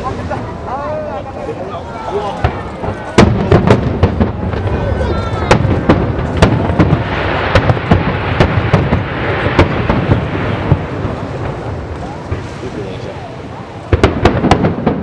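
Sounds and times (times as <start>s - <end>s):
dense fireworks hiss: 0.0s - 15.0s
fireworks bangs: 0.0s - 15.0s.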